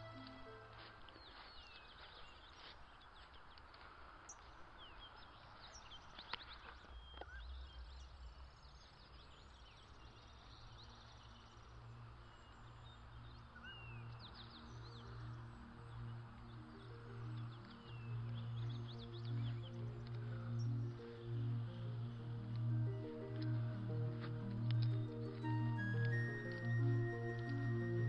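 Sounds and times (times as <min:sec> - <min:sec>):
birds chirping and singing: 0:00.0 - 0:28.0.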